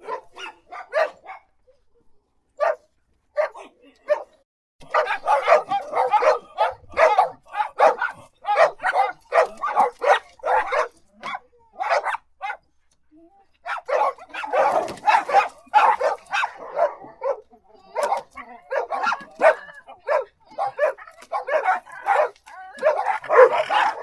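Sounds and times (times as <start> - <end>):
dogs barking: 0.0 - 1.8, 2.6 - 12.7, 13.6 - 24.0.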